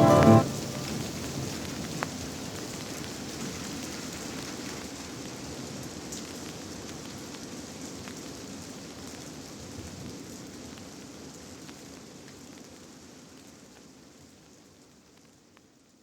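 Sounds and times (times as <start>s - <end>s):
rain-like patter: 0.7s - 16.0s.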